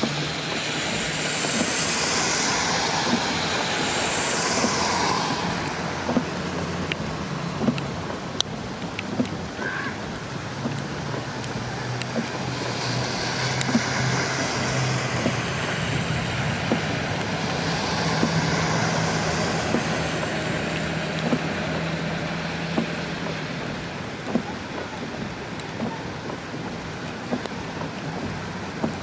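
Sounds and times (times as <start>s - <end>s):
engine low hum: 0.0s - 29.0s
rain: 0.0s - 29.0s
water washing: 0.0s - 29.0s.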